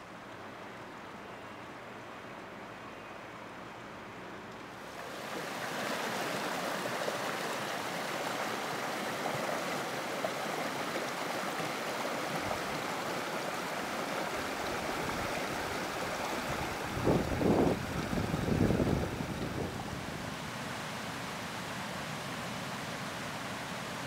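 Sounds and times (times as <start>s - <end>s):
stream rushing over boulders: 4.7s - 24.0s.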